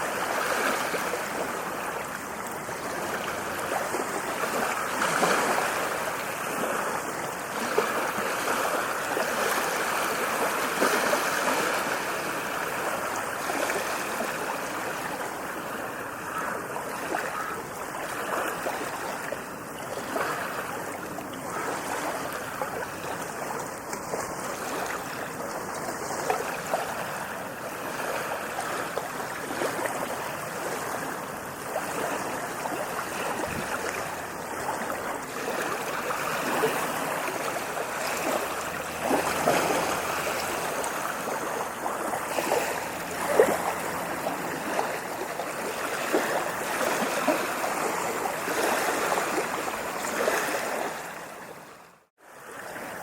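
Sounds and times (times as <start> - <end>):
ocean surf breaking on beach: 0.0 - 51.6.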